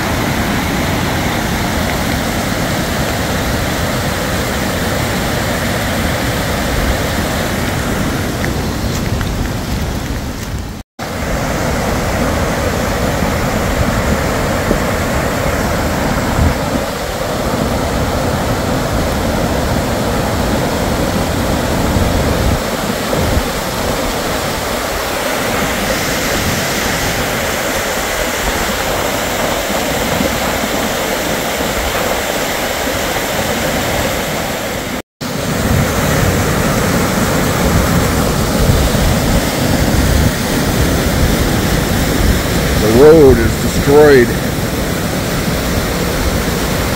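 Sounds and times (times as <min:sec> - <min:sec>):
floodwater rushing: 0:00.0 - 0:46.9.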